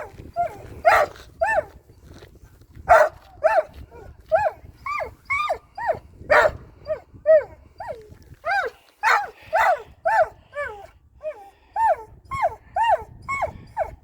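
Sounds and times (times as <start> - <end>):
dog yelping: 0.0 - 1.8, 4.3 - 14.0.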